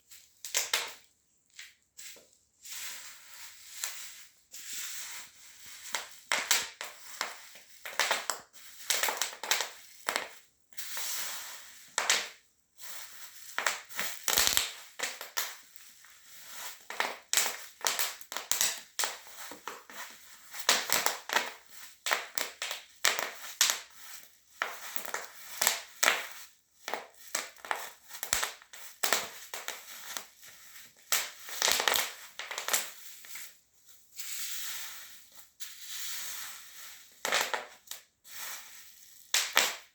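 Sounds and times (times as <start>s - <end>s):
bubble wrap popping underfoot: 0.0s - 35.9s, 36.6s - 39.9s.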